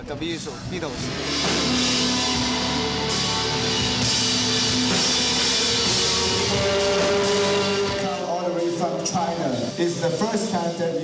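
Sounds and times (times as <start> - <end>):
loud rock music: 0.0 - 11.0
cymbals crashing: 0.3 - 11.0.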